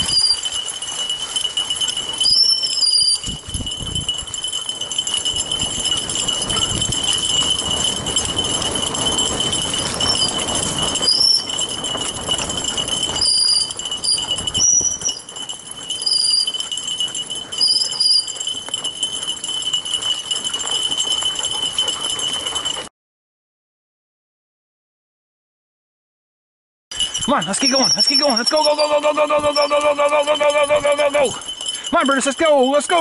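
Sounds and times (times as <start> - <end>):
metallic jingling: 0.0 - 22.9, 26.9 - 33.0.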